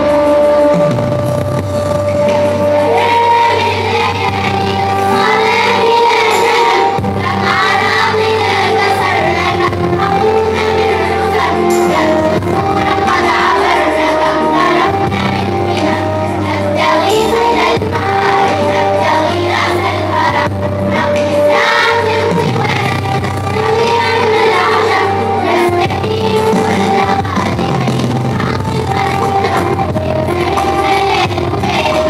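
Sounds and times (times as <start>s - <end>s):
children's choir singing: 0.0s - 32.0s
electronic keyboard accompaniment: 0.0s - 32.0s.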